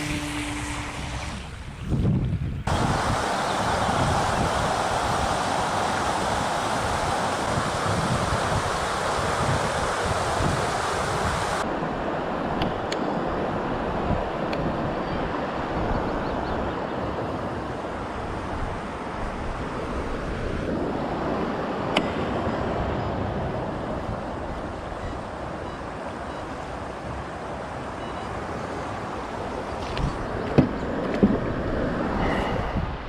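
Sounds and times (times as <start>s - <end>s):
waves washing: 0.0s - 1.8s, 2.7s - 33.0s
wind buffeting microphone: 0.0s - 27.7s, 29.2s - 33.0s.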